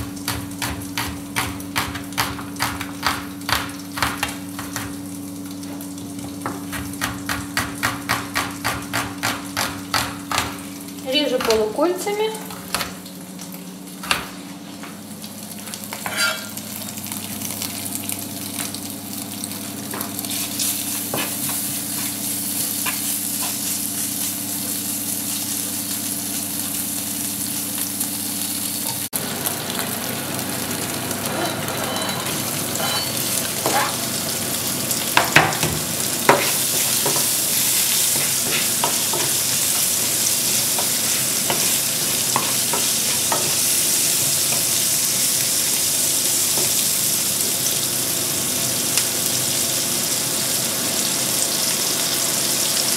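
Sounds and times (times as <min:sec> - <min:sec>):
fat and onion sizzling in a pan: 0:00.0 - 0:52.9.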